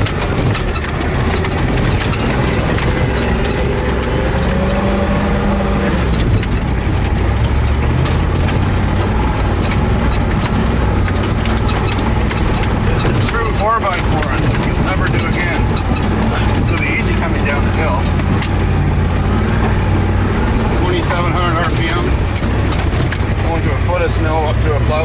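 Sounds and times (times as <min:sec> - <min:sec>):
knocks and rattles: 0:00.0 - 0:25.0
truck engine running: 0:00.0 - 0:25.0.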